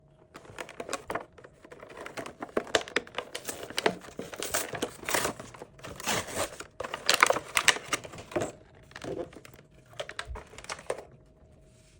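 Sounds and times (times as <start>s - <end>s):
rustling and crinkling: 0.2s - 11.9s.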